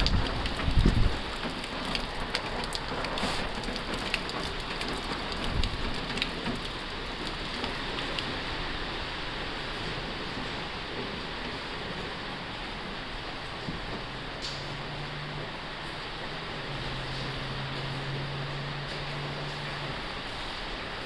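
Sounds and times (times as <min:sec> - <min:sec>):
heavy rain on a tin roof: 0:00.0 - 0:21.0.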